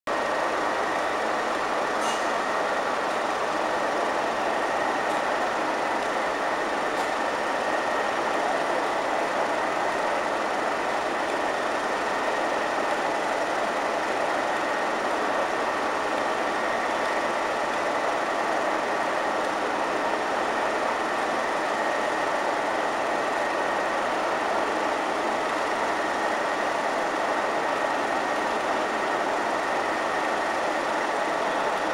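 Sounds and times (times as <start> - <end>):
diesel locomotive engine running: 0.1 - 31.9.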